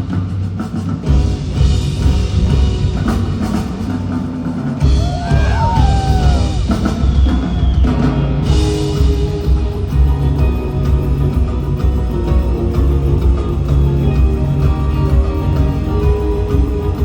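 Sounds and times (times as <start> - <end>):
drum kit and bass beat: 0.0 - 17.0
live rock band: 0.0 - 17.0.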